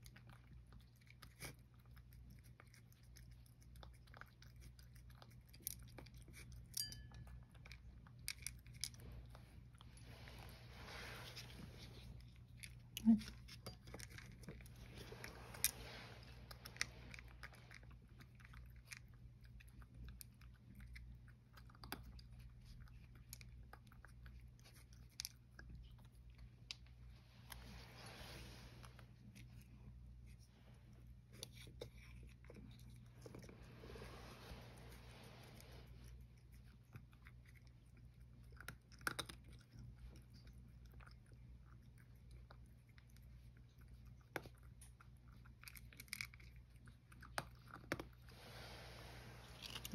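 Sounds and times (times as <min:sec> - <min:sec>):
cat chewing crunchy food: 0:00.0 - 0:49.9.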